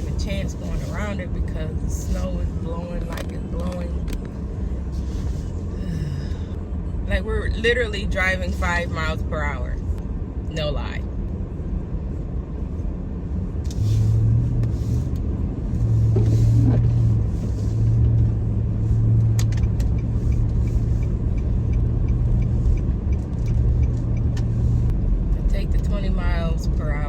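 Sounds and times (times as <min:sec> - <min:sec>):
engine and tyres rumbling: 0:00.0 - 0:27.0
strong low hum: 0:00.0 - 0:27.0.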